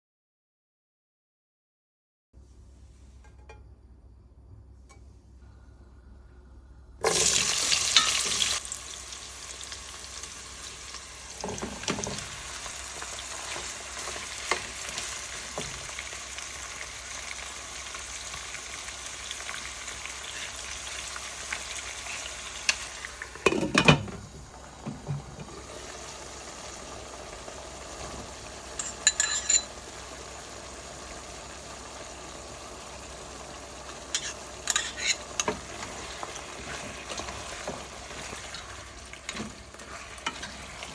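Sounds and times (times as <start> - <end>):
food sizzling in hot oil: 7.0 - 40.9.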